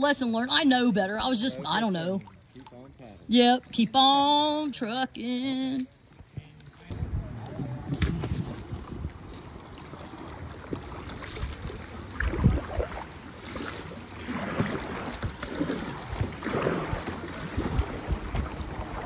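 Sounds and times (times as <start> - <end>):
paddle swishing and splashing water: 0.0 - 19.0.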